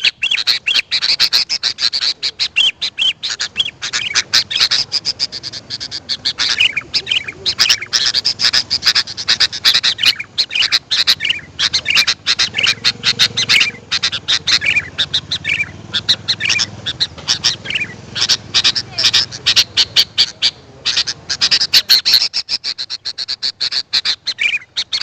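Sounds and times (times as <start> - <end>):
birds chirping and whistling: 0.0 - 25.0.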